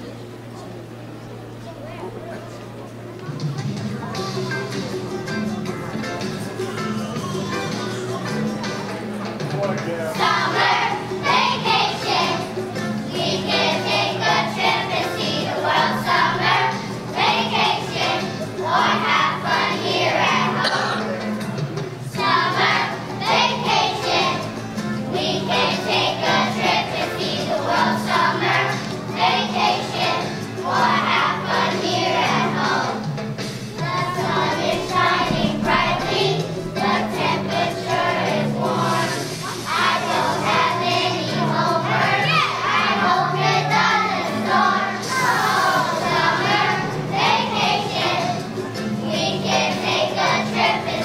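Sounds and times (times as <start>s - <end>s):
instrumental accompaniment: 2.4s - 51.0s
children's choir singing: 4.0s - 51.0s.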